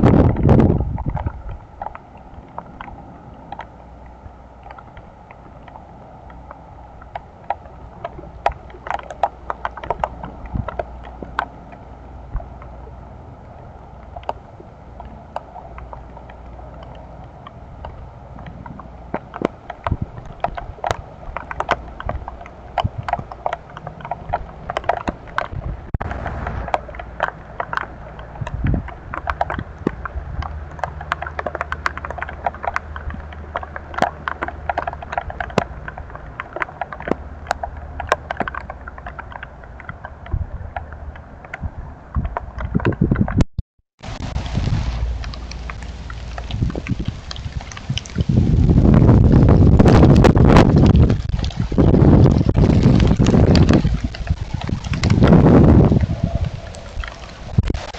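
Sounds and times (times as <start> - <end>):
steady storm noise: 0.0 - 57.9.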